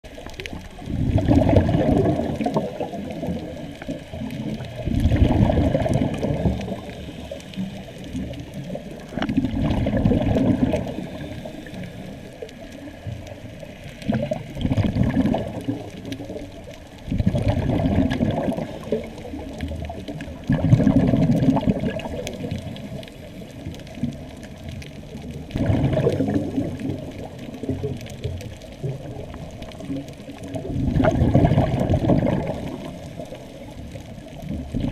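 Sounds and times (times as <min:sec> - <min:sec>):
scuba regulator bubbles underwater: 0:00.0 - 0:34.9.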